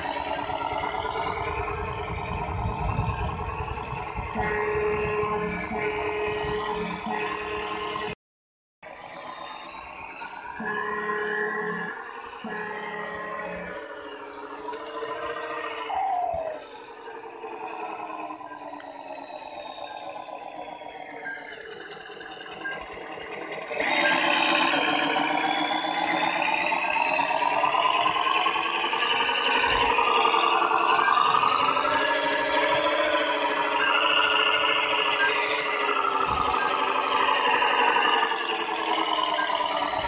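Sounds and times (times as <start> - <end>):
toy truck motor whining: 0.0 - 8.2, 8.9 - 40.0.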